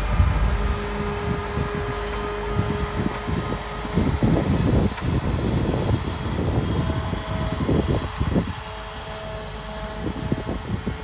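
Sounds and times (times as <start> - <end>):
diesel engine running under load: 0.0 - 11.0
thin steady whine: 0.0 - 11.0.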